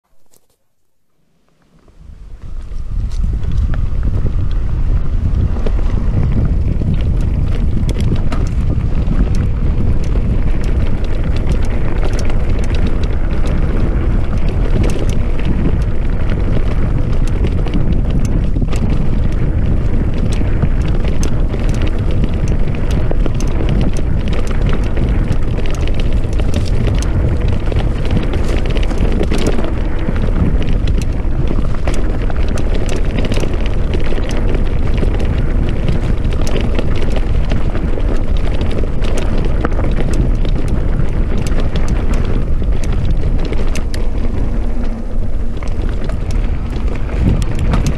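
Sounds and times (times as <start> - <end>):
bike rattling and knocking: 1.8 - 47.9
wind buffeting microphone: 1.8 - 47.9.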